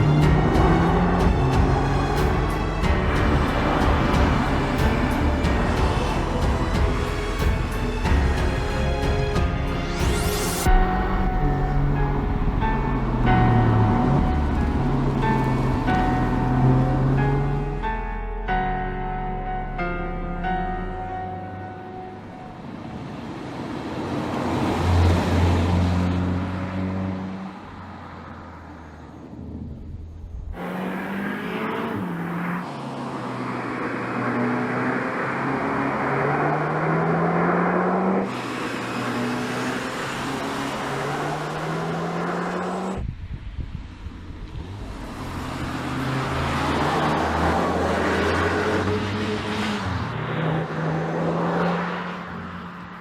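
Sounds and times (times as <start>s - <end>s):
car engine accelerating: 0.0s - 9.1s, 10.6s - 18.4s, 23.7s - 53.0s.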